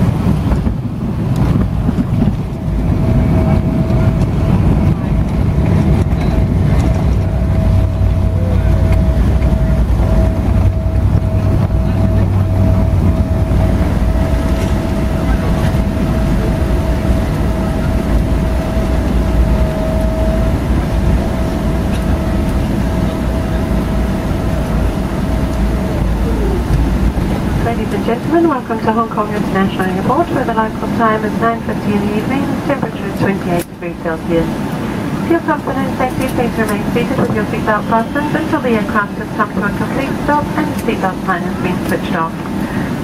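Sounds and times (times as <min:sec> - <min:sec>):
aircraft engines and airflow rumble: 0:00.0 - 0:43.0.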